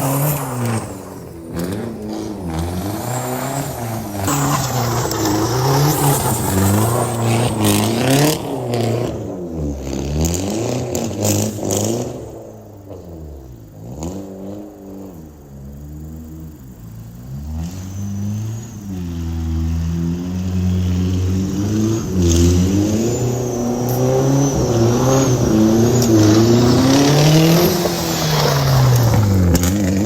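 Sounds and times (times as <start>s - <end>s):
turbo car engine revving: 0.0s - 30.0s.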